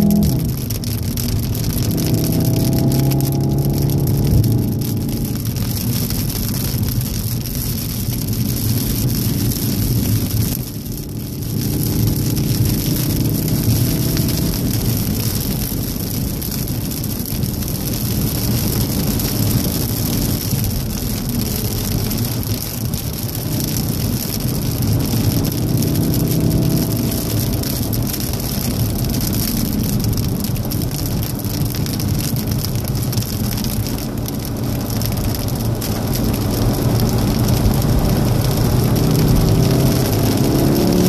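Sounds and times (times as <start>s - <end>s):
car engine under load: 0.0s - 41.0s
tyres hissing on wet road: 0.0s - 41.0s.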